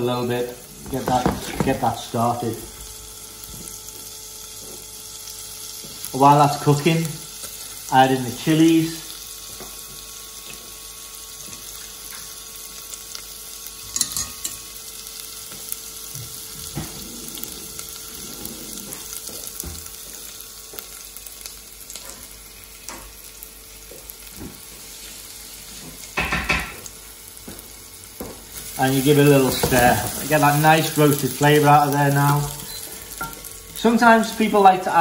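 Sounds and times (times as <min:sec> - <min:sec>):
spices sizzling in oil: 0:00.0 - 0:35.0.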